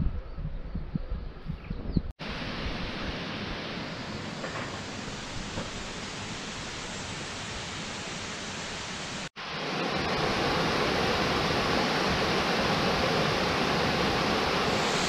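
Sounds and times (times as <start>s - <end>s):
waterfall rushing: 2.2s - 15.0s.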